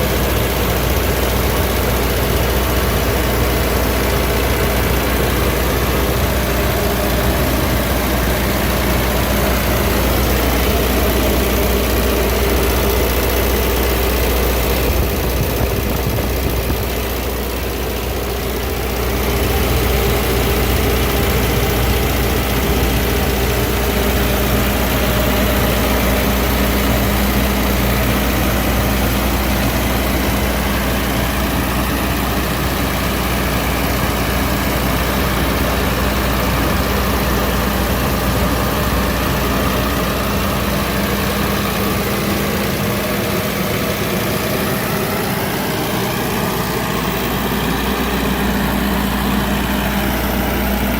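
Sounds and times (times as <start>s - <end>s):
diesel generator running: 0.0s - 50.9s.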